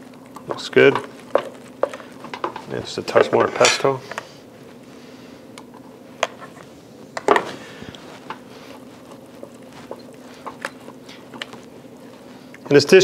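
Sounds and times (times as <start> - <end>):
low steady hum: 0.0 - 13.0
wooden spoon stirring: 0.0 - 13.0.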